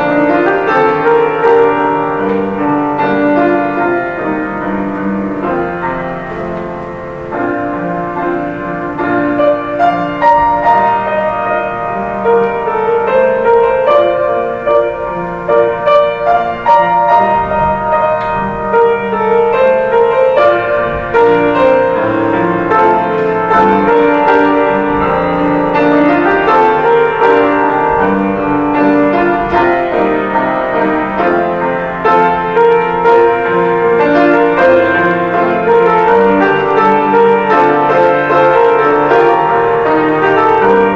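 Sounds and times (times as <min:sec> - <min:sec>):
solo piano piece: 0:00.0 - 0:40.9.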